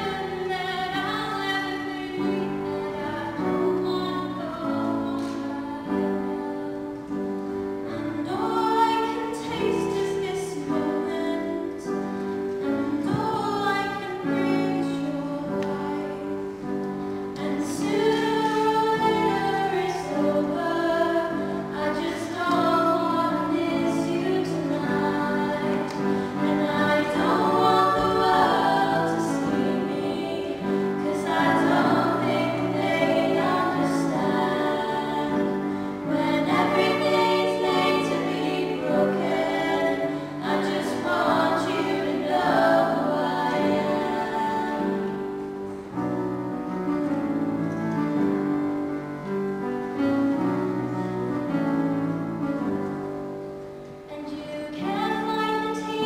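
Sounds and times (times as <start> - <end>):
women singing in harmony: 0.0 - 45.7, 54.1 - 56.0
piano accompaniment: 0.0 - 56.0.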